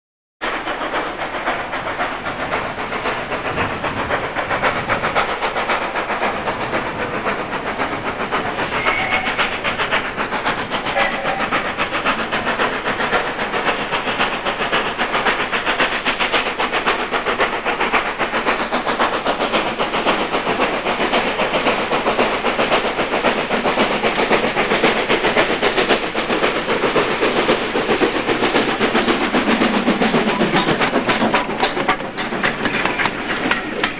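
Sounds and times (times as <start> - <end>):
steam hissing: 0.4 - 33.9
steam locomotive exhaust beat: 0.4 - 33.9.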